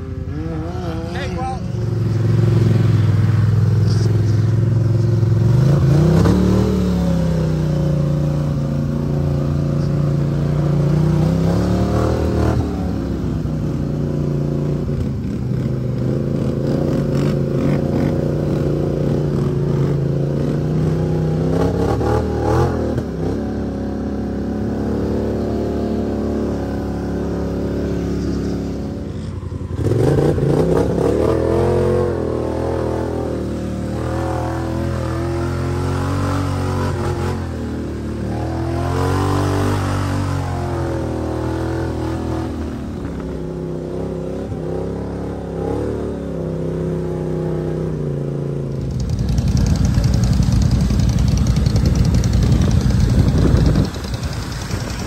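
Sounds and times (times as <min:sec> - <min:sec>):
vehicle engine revving: 0:00.0 - 0:48.0, 0:48.6 - 0:55.0.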